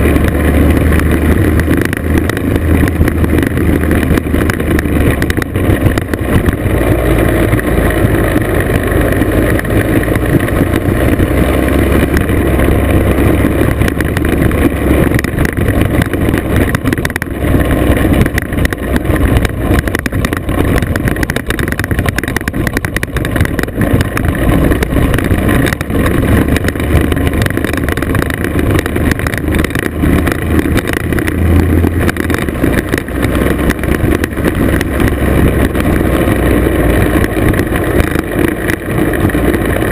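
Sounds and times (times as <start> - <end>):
two-stroke scooter engine running: 0.0 - 39.9
wind on microphone: 0.0 - 39.9.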